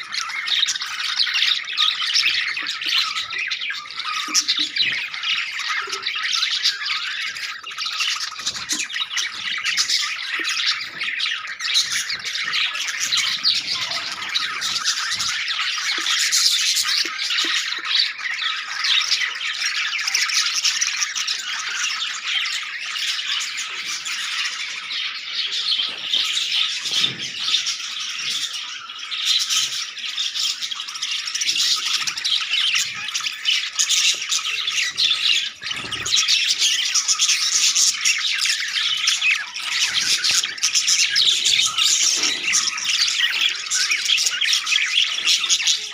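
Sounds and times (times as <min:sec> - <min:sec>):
budgerigars chirping and squawking: 0:00.0 - 0:45.9.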